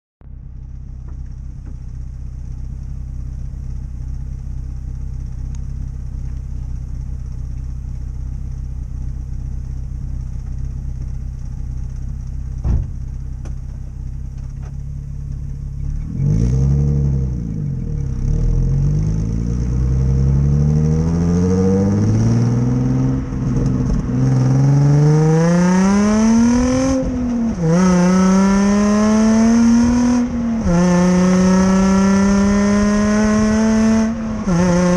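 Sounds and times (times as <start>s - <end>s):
car engine idling and revving: 0.2s - 34.9s.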